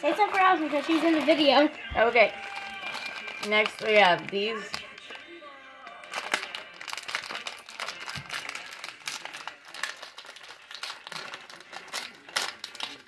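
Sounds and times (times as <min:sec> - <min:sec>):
plastic wrapper crinkling: 0:00.0 - 0:05.2, 0:05.9 - 0:13.0.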